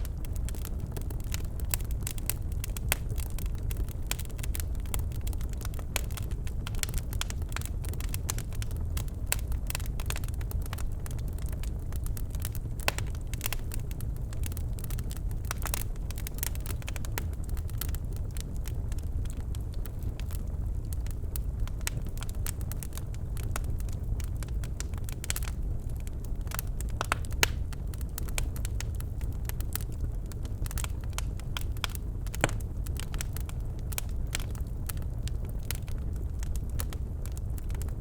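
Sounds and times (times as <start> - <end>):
fire crackling and popping: 0.0 - 38.0
low rumble of flames: 0.0 - 38.0.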